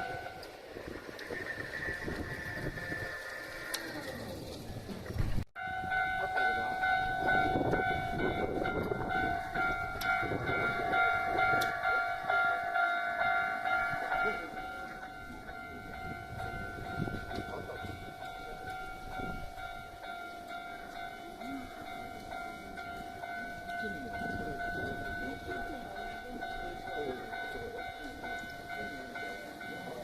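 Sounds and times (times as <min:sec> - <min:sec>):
level-crossing alarm ringing: 0:00.0 - 0:04.1, 0:05.6 - 0:30.0
train wheels rumbling and clattering: 0:00.0 - 0:30.0.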